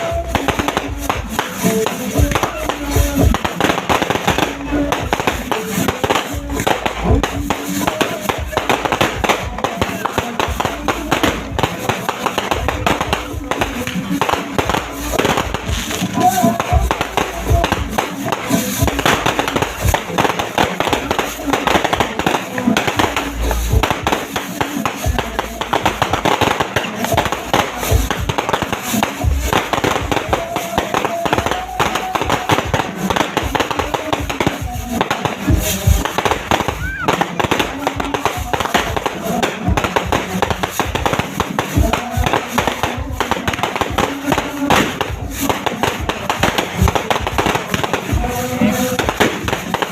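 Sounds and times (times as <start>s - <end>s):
fireworks and firecrackers banging: 0.0s - 49.9s.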